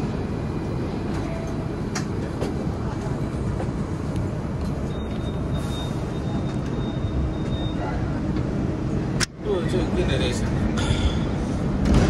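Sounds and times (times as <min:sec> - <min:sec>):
tram rumbling along tracks: 0:00.0 - 0:12.0.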